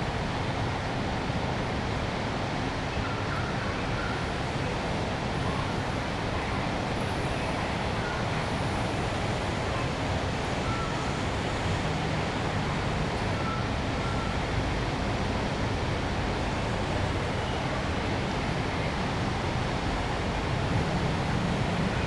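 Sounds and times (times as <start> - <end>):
road traffic noise: 4.2 - 22.0.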